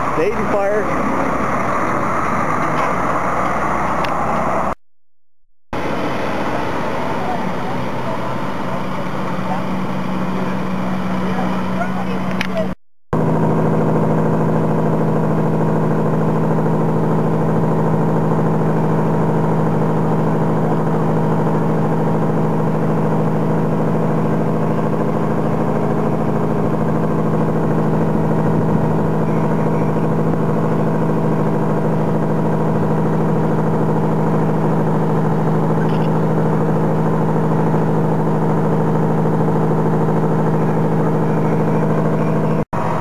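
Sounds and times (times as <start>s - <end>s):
vehicle engine humming: 0.0s - 4.8s, 5.7s - 43.0s.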